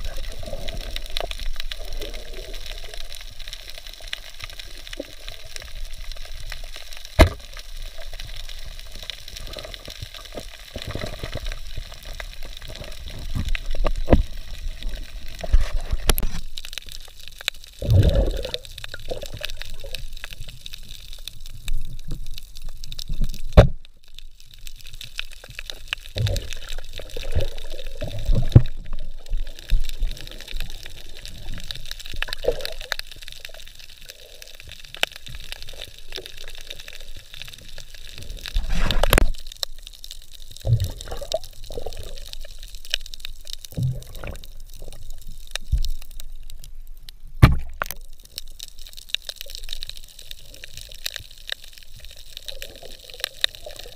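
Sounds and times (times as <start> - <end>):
underwater gurgling and bubbling: 0.0 - 53.9
underwater water wash: 0.0 - 53.9.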